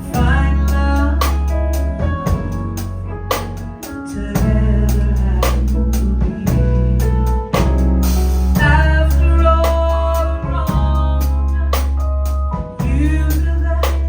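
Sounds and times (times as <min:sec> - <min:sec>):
bass: 0:00.0 - 0:14.0
drum kit beat: 0:00.0 - 0:14.0
sustained keyboard chords: 0:00.0 - 0:14.0.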